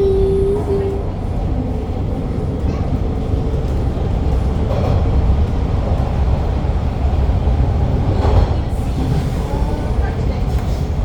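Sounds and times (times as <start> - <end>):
subway train rumbling in tunnel: 0.0 - 11.0.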